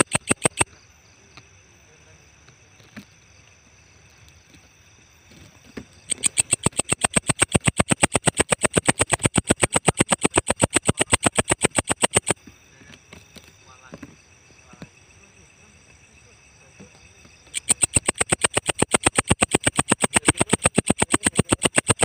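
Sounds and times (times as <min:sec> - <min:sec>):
bush cricket ticking: 0:00.0 - 0:22.0.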